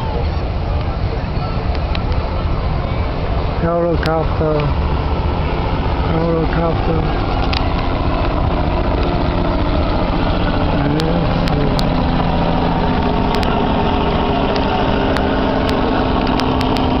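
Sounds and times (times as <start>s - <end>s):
helicopter rotor fluttering drone: 0.0s - 17.0s.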